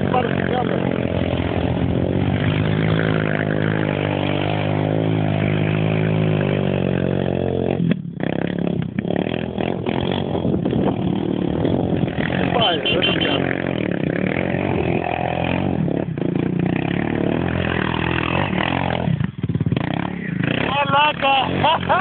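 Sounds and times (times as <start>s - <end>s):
quad bike engine revving: 0.0s - 22.0s.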